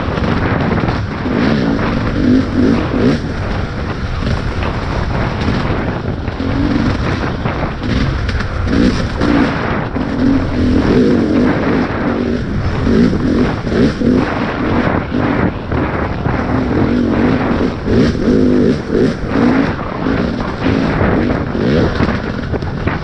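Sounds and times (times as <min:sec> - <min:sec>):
dirt bike engine revving: 0:00.0 - 0:23.0
loud rushing noise: 0:00.0 - 0:23.0.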